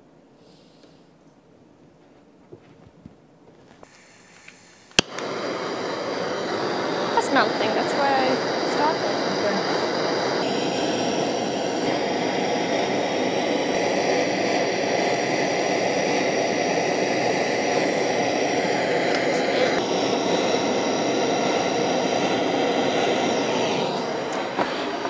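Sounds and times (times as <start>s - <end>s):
propane torch flame rushing: 3.8s - 25.0s.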